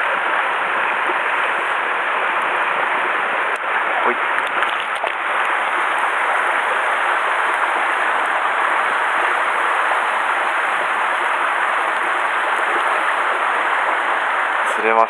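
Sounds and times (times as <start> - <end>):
mountain stream rushing: 0.0 - 15.0
water spilling over cascade: 1.0 - 15.0.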